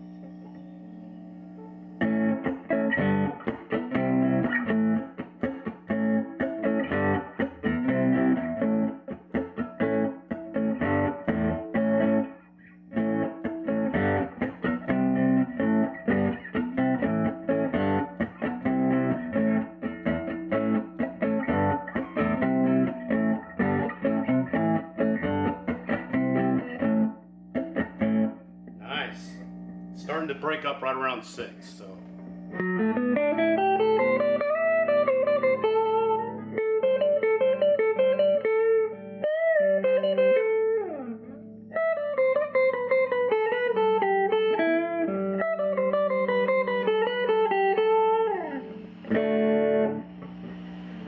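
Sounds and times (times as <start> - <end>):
amplifier hum: 0.0 - 36.6, 46.1 - 51.0
overdriven electric guitar riffs: 0.0 - 51.0.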